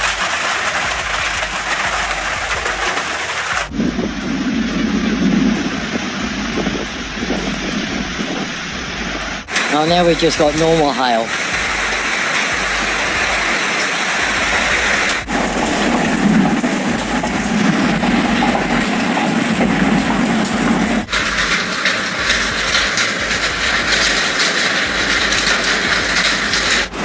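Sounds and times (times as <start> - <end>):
hail and heavy rain pelting: 0.0 - 27.0
hailstones ticking: 0.0 - 27.0.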